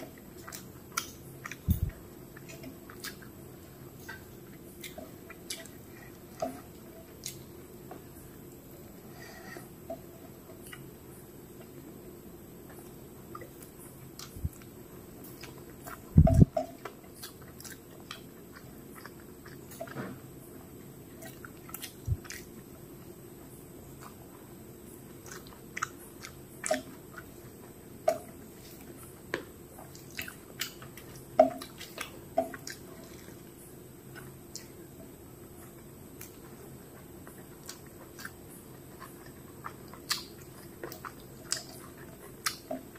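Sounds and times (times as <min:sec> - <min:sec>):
person chewing: 0:00.0 - 0:11.8, 0:12.6 - 0:20.2, 0:21.1 - 0:23.1, 0:23.8 - 0:42.9.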